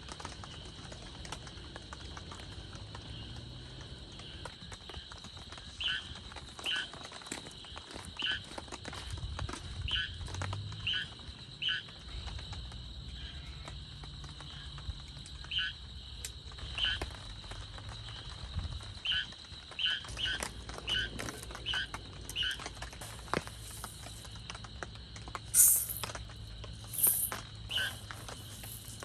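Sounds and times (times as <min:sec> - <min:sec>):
insect drone: 0:00.0 - 0:29.0.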